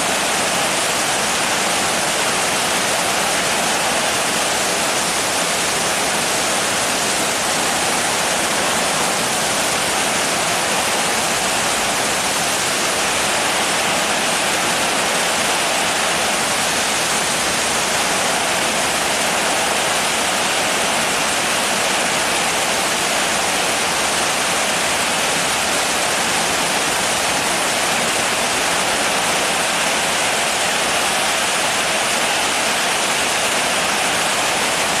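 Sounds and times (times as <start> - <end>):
steady rain hiss: 0.0 - 35.0.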